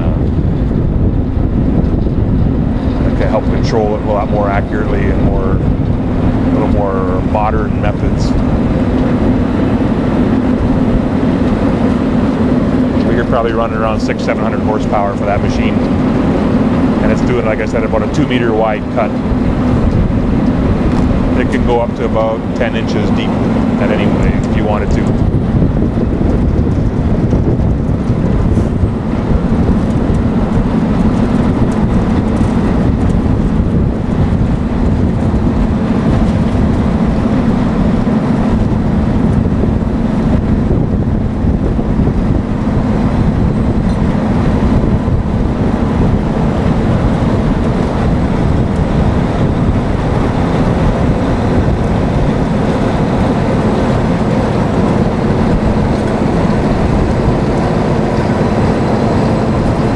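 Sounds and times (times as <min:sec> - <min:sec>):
asphalt milling machine rumbling: 0:00.0 - 0:59.9.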